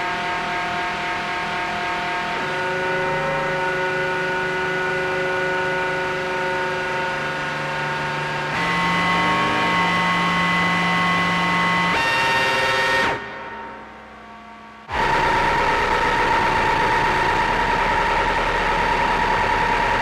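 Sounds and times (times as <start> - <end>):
synthesizer drone: 0.0 - 20.0.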